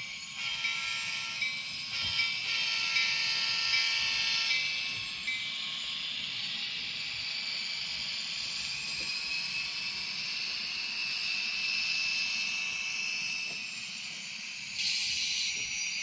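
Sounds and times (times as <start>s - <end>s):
model train diesel engine sound: 0.0s - 16.0s.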